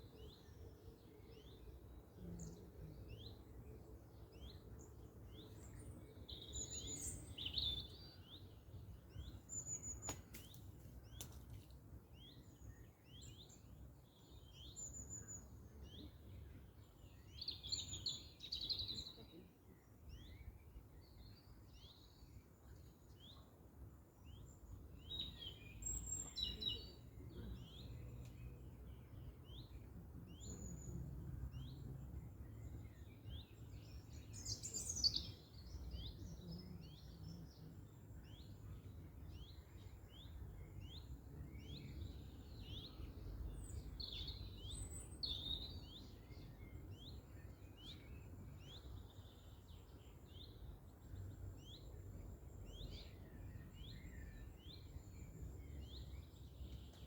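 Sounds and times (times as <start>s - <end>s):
songbirds chirping and singing: 0.0s - 11.4s, 12.1s - 57.0s.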